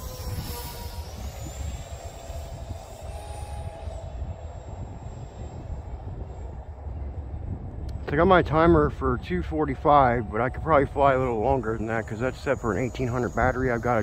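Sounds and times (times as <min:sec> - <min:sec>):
electric ducted fan whining: 0:00.0 - 0:14.0
wind rumble on microphone: 0:00.0 - 0:14.0.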